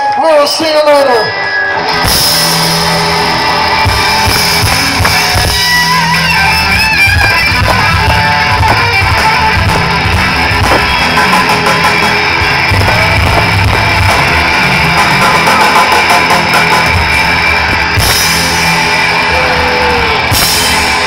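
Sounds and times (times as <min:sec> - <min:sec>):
bass guitar: 0:00.0 - 0:21.0
drums: 0:00.0 - 0:21.0
electric guitar strumming: 0:00.8 - 0:21.0.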